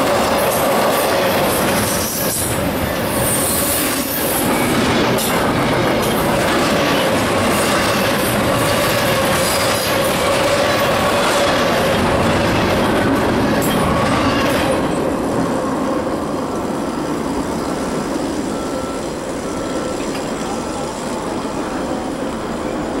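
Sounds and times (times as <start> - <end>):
train wheels clattering and squealing: 0.0 - 23.0.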